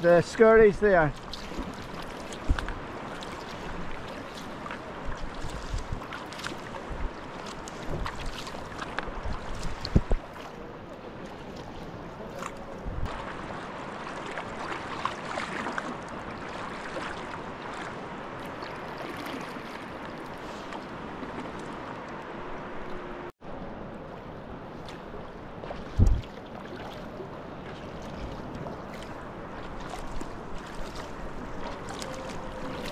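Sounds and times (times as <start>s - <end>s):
paddle blades splashing: 0.0s - 32.9s
water lapping along hull: 0.0s - 32.9s.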